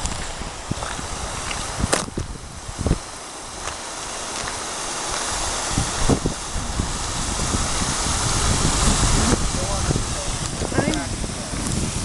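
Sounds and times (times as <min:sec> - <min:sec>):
tyres hissing on wet road: 0:00.0 - 0:12.0
wind thumps on microphone: 0:00.0 - 0:12.0.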